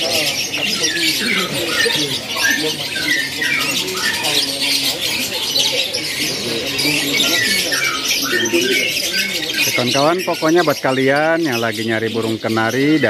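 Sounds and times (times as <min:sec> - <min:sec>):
canaries chirping: 0:00.0 - 0:13.0
people talking: 0:00.0 - 0:13.0.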